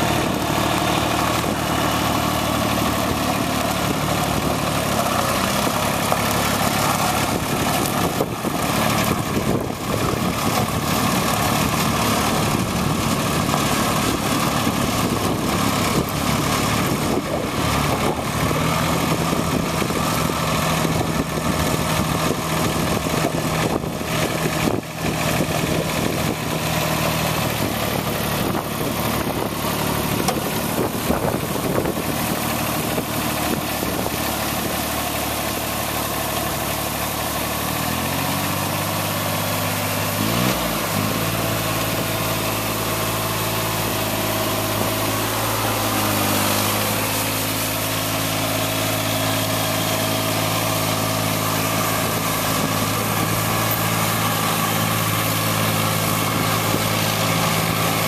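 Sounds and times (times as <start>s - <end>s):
road sweeper engine running: 0.0s - 58.0s
rotary broom brushing pavement: 0.0s - 58.0s.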